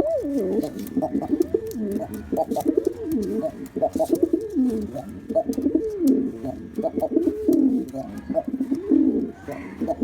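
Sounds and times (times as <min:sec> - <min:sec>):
pigeon cooing: 0:00.0 - 0:10.0.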